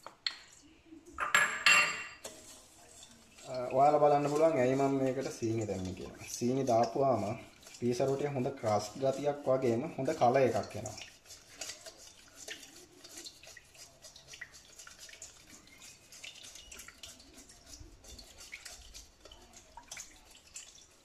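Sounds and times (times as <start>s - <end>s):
spatula stirring wet dough: 2.2s - 21.0s.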